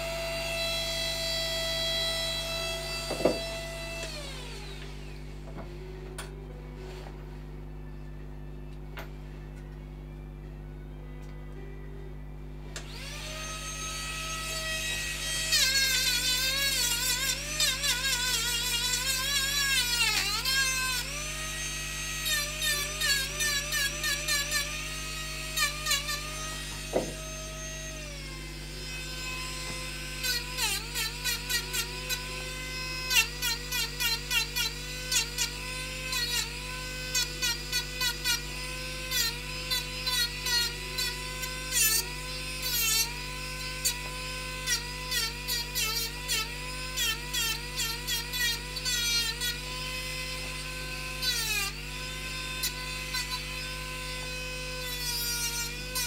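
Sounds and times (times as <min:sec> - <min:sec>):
rotary tool whining on wood: 0:00.0 - 0:07.2, 0:12.6 - 0:56.0.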